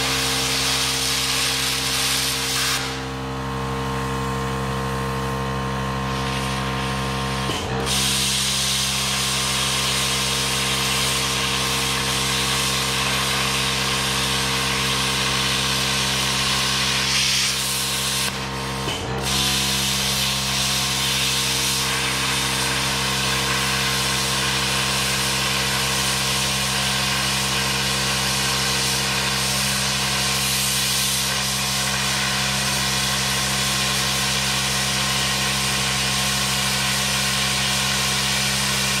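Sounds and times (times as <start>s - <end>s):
plasma arc hissing: 0.0s - 3.2s, 6.0s - 39.0s
air compressor humming: 0.0s - 39.0s.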